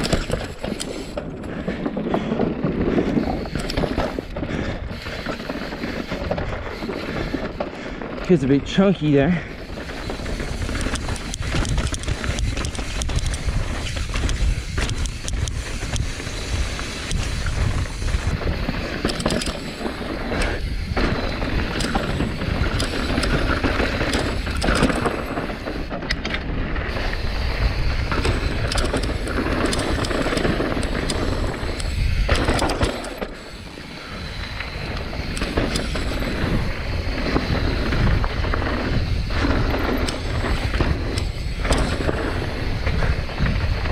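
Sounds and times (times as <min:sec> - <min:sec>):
mountain bike rattling on rocks: 0:00.0 - 0:43.9
wind rush on microphone: 0:00.0 - 0:43.9.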